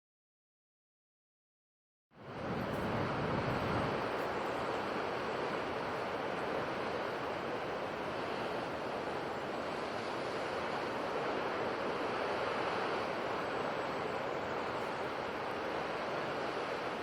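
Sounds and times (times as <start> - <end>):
sea surf rushing: 2.2 - 17.0.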